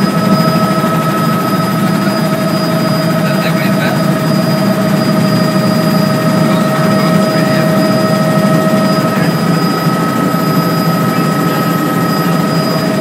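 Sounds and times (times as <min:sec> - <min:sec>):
constant high whine: 0:00.0 - 0:13.0
helicopter engine and rotor drone: 0:00.0 - 0:13.0.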